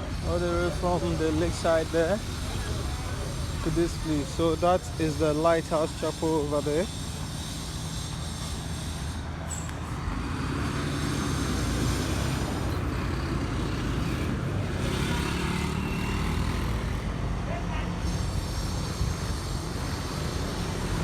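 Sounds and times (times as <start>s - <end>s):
road traffic noise: 0.0s - 21.0s.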